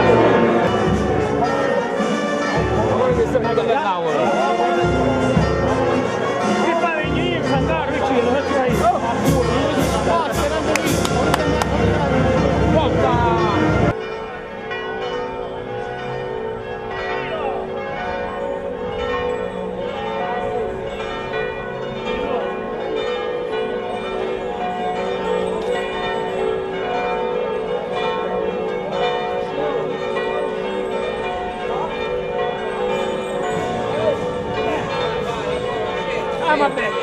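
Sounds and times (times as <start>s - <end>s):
faint crowd voices: 0.0s - 14.6s, 20.7s - 37.0s
church bells ringing: 0.0s - 37.0s.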